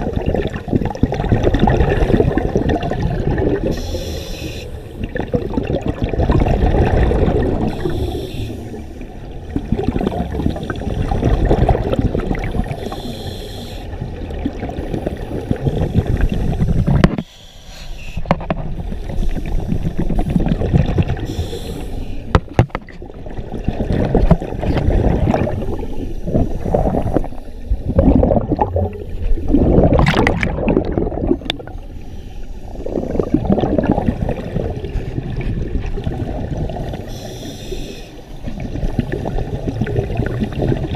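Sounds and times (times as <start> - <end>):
underwater exhaled air bubbling: 0.0 - 17.2, 18.2 - 40.9.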